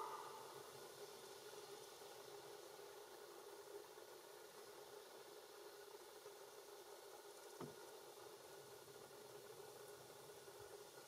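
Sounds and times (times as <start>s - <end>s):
faint hiss: 0.0s - 11.0s
faint hum: 0.0s - 11.0s.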